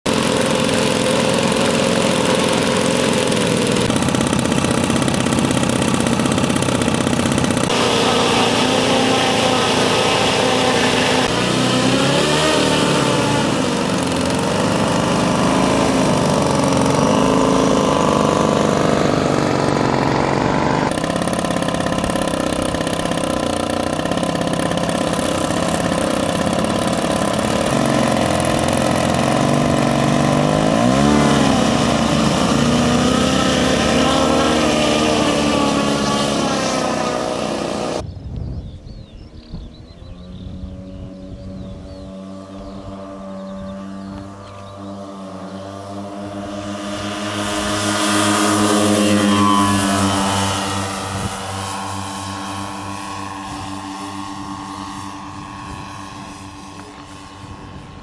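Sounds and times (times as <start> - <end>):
model plane propeller engines: 0.0 - 58.0.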